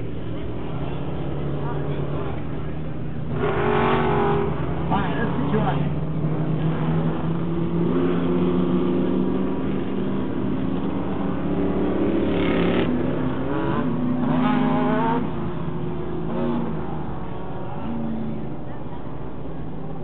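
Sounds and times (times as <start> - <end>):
race truck engines revving: 0.0 - 20.0.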